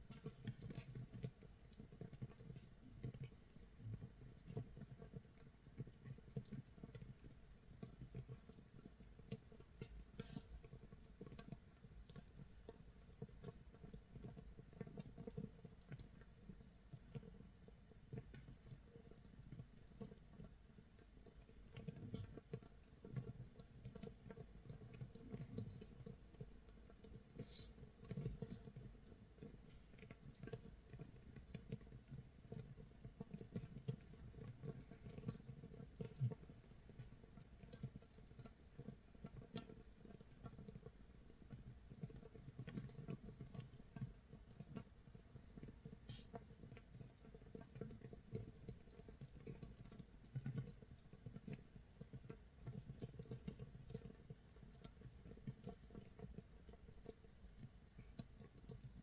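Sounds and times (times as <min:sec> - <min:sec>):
bubbles popping in fermenting mash: 0:00.0 - 0:59.0.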